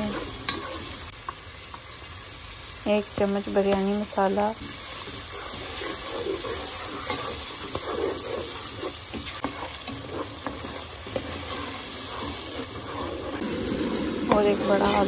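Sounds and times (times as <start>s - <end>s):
spatula scraping a pan: 0.0s - 1.1s, 3.5s - 15.0s
food sizzling in oil: 0.0s - 15.0s.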